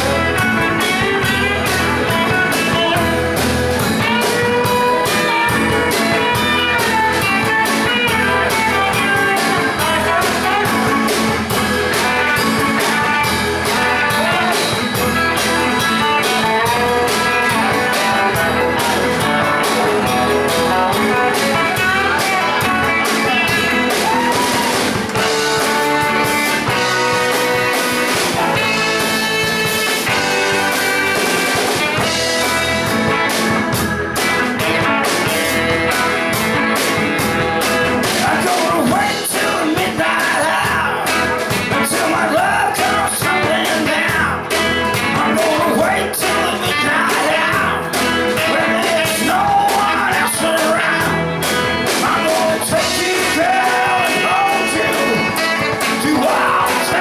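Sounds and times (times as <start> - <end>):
drums: 0.0 - 57.0
guitar: 0.0 - 57.0
person singing: 4.0 - 30.8, 38.0 - 57.0.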